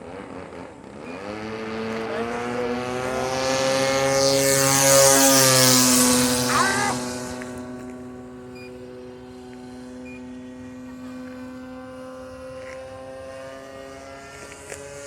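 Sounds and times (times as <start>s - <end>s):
model plane engine in flight: 0.0s - 15.0s.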